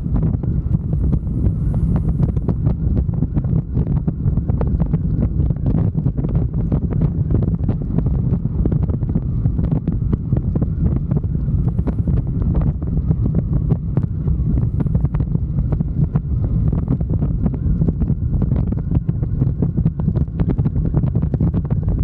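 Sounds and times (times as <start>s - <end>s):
engine and road rumble: 0.0s - 22.0s
wind buffeting microphone: 0.0s - 22.0s.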